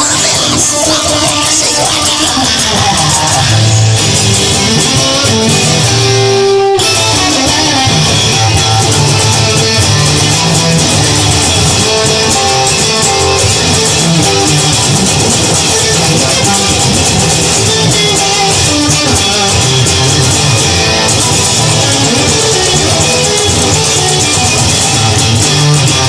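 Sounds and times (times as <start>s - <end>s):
bass: 0.0s - 26.0s
electric guitar playing: 0.0s - 26.0s.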